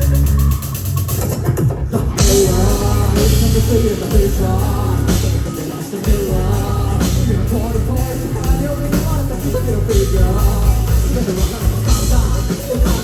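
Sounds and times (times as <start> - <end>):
rock band playing live: 0.0 - 13.0
person singing: 2.0 - 13.0.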